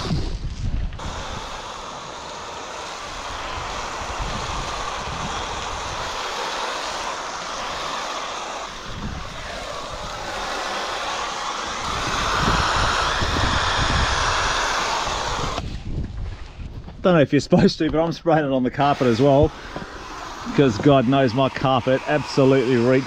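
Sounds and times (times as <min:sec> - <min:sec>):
hose spray hissing on surfaces: 0:01.0 - 0:15.6, 0:18.8 - 0:23.0.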